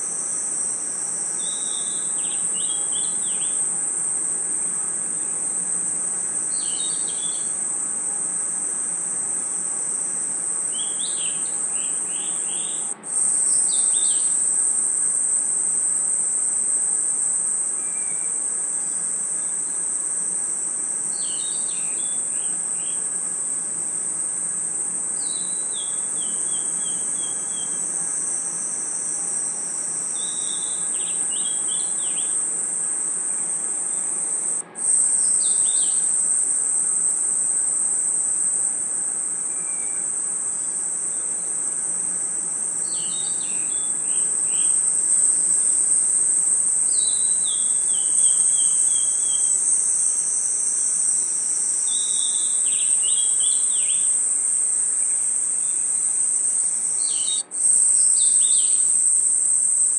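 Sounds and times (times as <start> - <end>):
insect chirps: 0.0 - 59.9
insects droning: 0.0 - 59.9.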